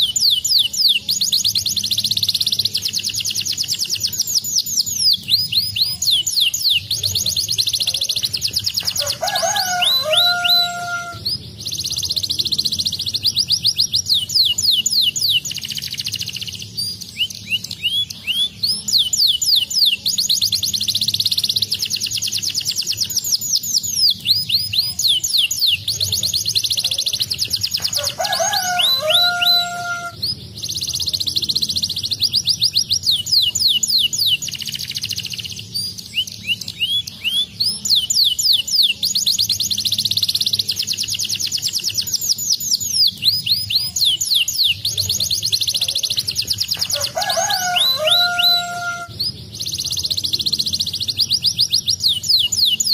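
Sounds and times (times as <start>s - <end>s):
canary singing trills: 0.0s - 52.9s.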